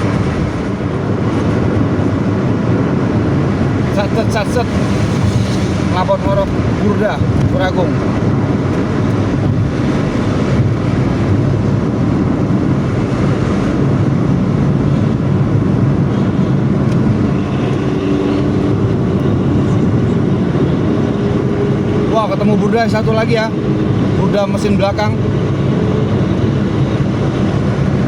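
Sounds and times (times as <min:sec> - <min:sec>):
bus exhaust droning: 0:00.0 - 0:28.0
road noise: 0:00.0 - 0:28.0.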